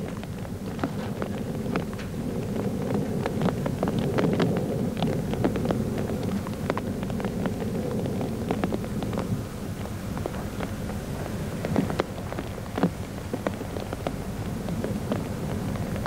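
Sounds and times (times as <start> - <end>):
train engine rumbling: 0.0 - 16.0.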